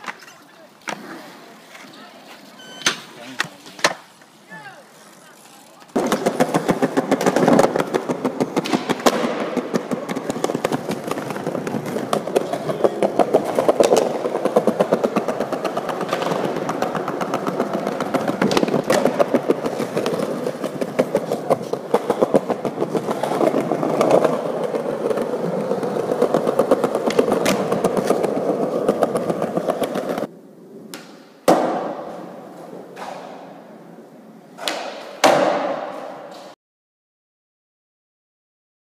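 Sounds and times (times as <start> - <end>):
skateboard clacks: 2.9 - 4.7, 5.4 - 36.6
skateboard wheels rumbling on pavement: 3.2 - 36.6.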